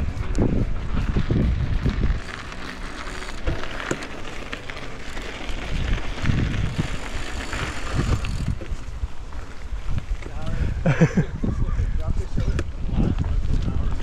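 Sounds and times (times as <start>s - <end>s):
bike tyres crunching on gravel: 0.0s - 11.0s, 12.7s - 14.0s
wind rumbling on microphone: 0.0s - 14.0s.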